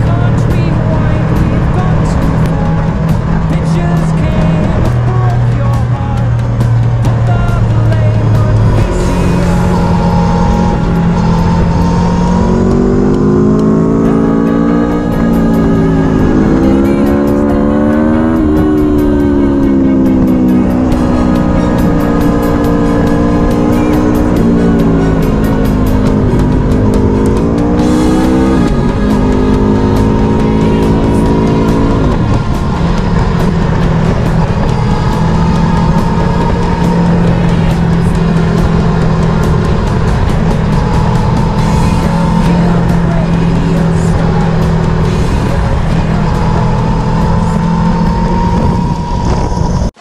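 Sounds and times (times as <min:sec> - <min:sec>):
background music with beat: 0:00.0 - 0:50.0
motorcycle engine accelerating: 0:00.0 - 0:50.0.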